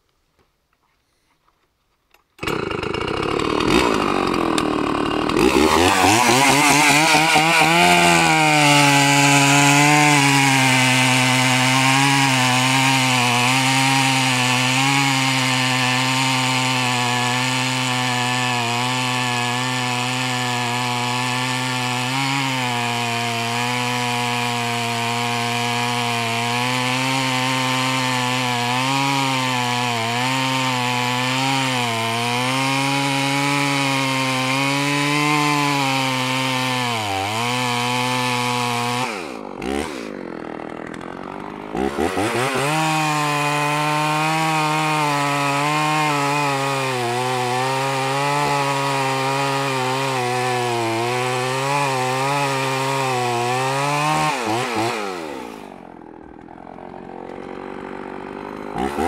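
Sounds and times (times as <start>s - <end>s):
chainsaw cutting through log: 2.3s - 59.0s.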